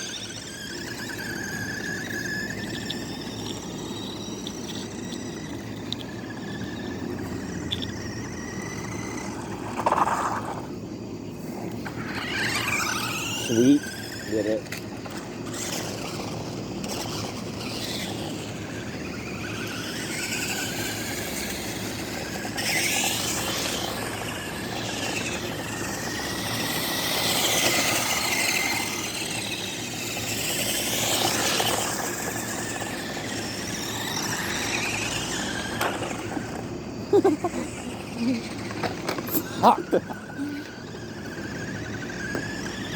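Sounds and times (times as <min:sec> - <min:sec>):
toy car motors whining: 0:00.0 - 0:42.9.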